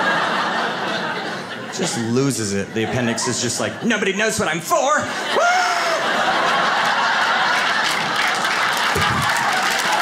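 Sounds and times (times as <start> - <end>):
audience laughing: 0.0 - 10.0.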